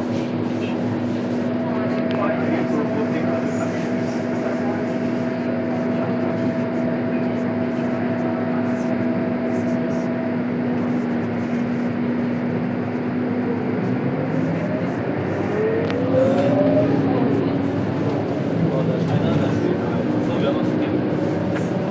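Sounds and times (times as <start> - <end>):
bus engine drone: 0.0 - 21.9
rising whine of accelerating bus: 0.0 - 21.9.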